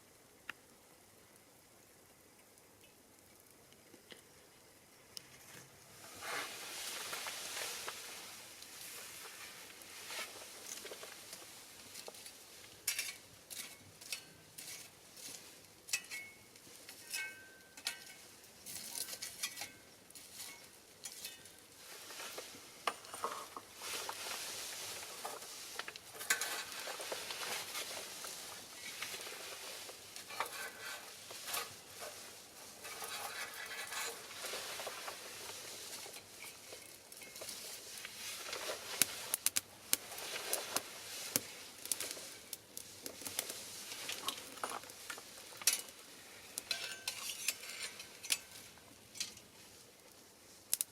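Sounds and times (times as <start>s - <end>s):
fire crackling and popping: 0.0s - 50.9s
fire hissing: 0.1s - 50.9s.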